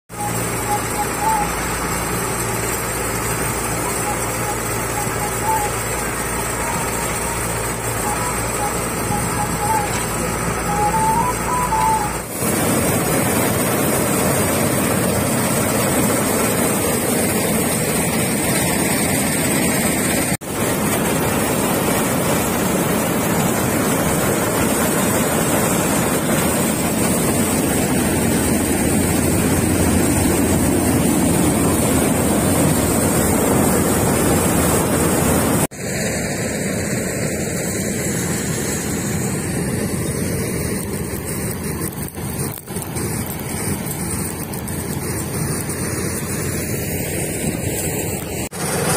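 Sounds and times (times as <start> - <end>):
combine harvester running: 0.1 - 48.9.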